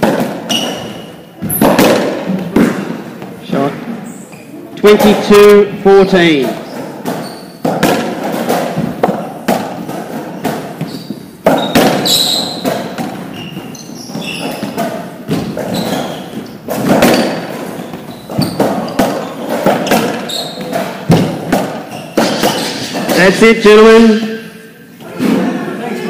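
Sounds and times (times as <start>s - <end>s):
racquetball hits echoing: 0.0s - 23.5s
shoes squeaking: 0.0s - 25.5s.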